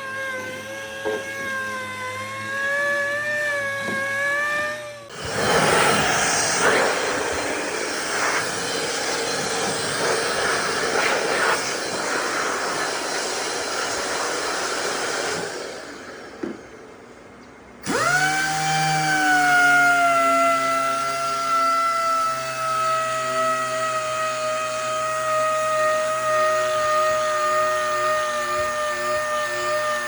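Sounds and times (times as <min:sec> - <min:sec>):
power tool grinding: 0:00.0 - 0:17.0, 0:17.8 - 0:30.0
small motor whine: 0:00.0 - 0:30.0.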